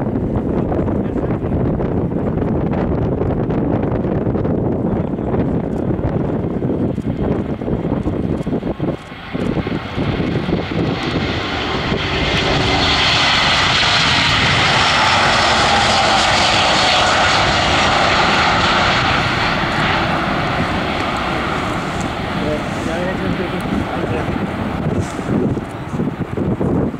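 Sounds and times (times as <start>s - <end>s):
jet engine roar: 0.0s - 26.9s
wind buffeting microphone: 0.0s - 26.9s.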